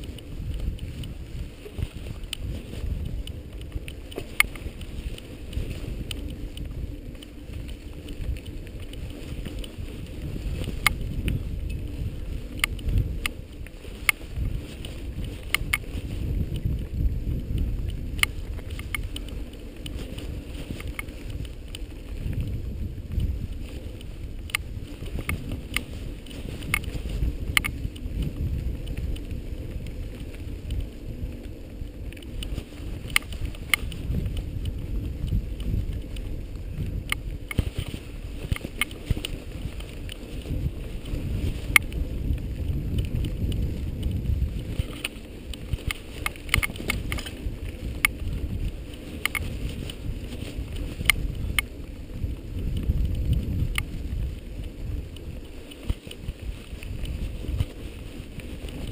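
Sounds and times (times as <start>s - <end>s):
wind and motion rumble: 0.0s - 58.9s.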